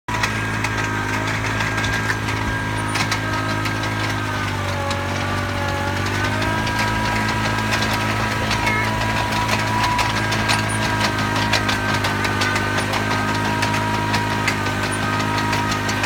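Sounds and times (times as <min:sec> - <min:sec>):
tractor engine running: 0:00.0 - 0:16.0
rattles and clicks: 0:00.1 - 0:16.0.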